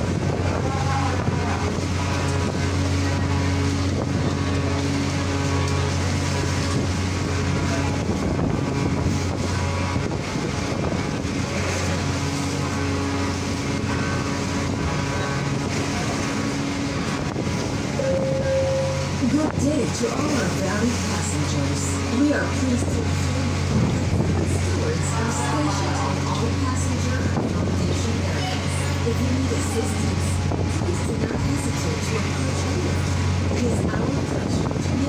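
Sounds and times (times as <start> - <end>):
churning water: 0.0 - 35.0
ferry diesel engines droning: 0.0 - 35.0
wind: 0.0 - 35.0.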